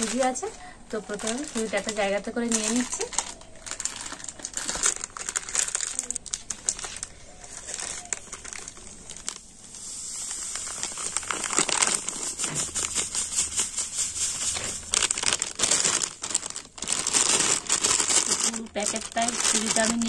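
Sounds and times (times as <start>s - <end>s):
plastic packet crinkling: 0.0s - 20.0s.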